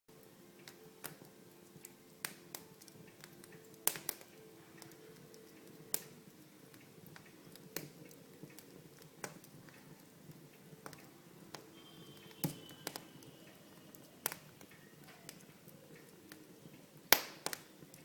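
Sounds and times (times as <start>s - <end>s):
fire crackling and popping: 0.1s - 18.0s.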